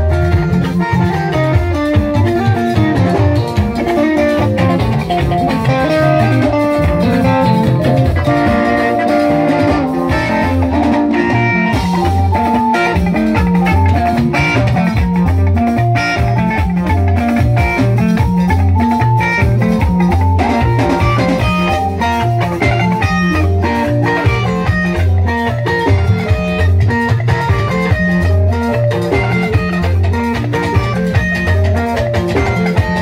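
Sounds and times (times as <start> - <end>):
bass line: 0.0 - 33.0
drums: 0.0 - 33.0
electric guitars: 0.0 - 33.0.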